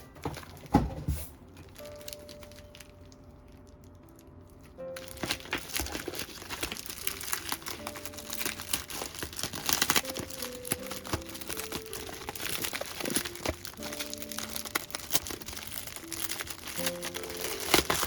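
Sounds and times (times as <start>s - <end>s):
soft background music: 0.0s - 18.0s
packaging crinkling: 1.6s - 18.0s.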